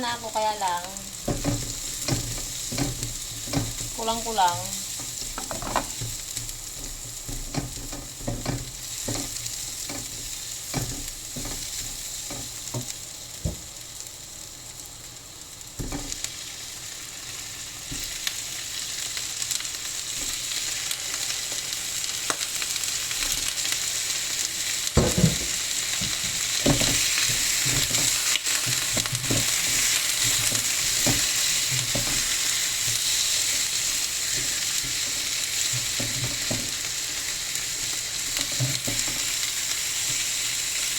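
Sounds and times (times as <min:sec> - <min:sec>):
food sizzling in a pot: 0:00.0 - 0:40.9.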